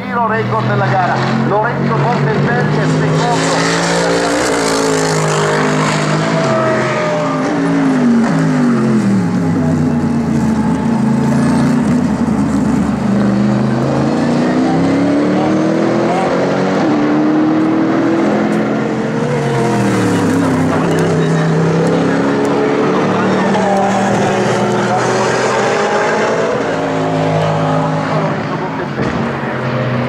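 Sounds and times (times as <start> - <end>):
race car engine accelerating: 0.3 - 30.0.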